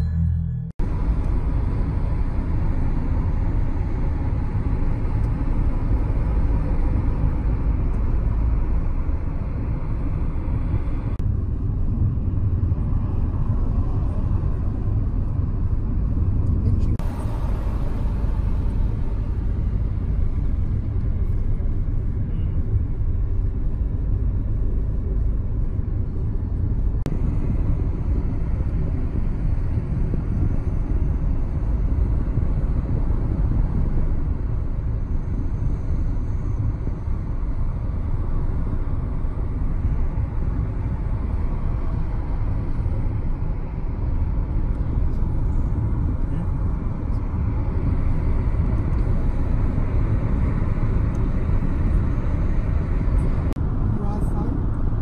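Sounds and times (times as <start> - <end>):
car road rumble from inside: 0.0 - 55.0.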